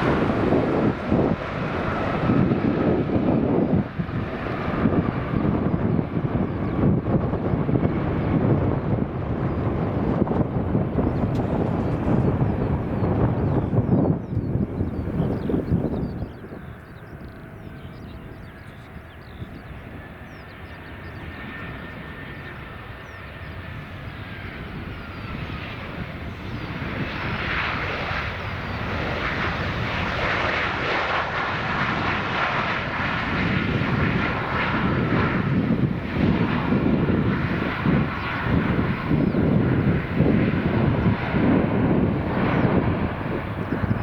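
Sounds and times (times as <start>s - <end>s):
jet airliner engine whine: 0.0s - 44.0s.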